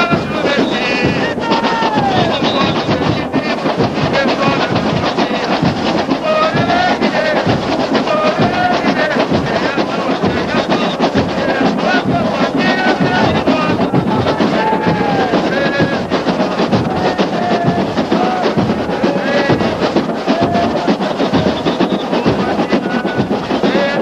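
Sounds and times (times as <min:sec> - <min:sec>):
samba drumming: 0:00.0 - 0:24.0
voices singing: 0:00.0 - 0:24.0.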